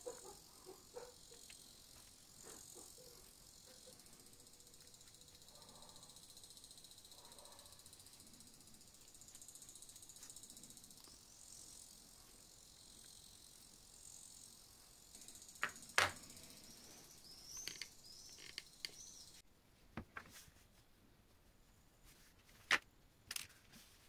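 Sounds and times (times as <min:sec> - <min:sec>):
faint hiss: 0:00.0 - 0:19.4.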